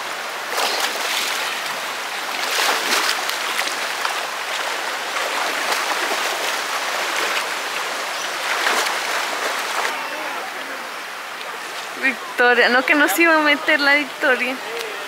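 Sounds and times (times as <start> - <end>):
people splashing through water: 0.0 - 15.0
river water rushing: 0.0 - 15.0.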